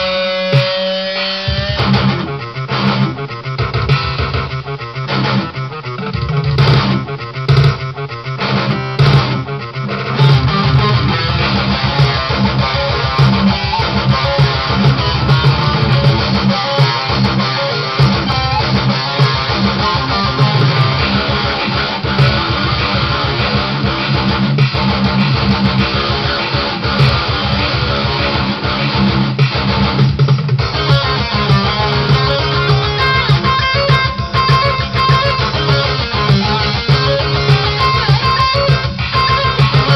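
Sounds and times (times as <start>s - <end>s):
electric guitar metal riff: 0.0s - 39.9s.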